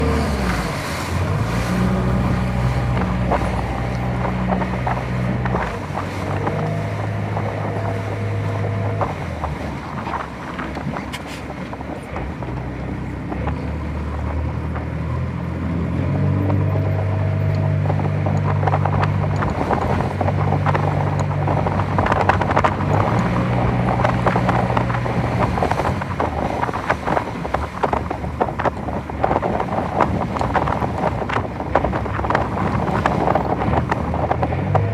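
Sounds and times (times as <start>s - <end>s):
low hum: 0.0s - 28.7s
wind buffeting microphone: 0.0s - 34.9s.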